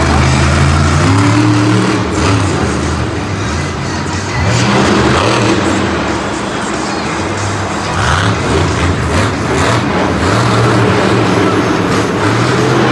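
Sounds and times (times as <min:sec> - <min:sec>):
monster truck engine revving: 0:00.0 - 0:12.9.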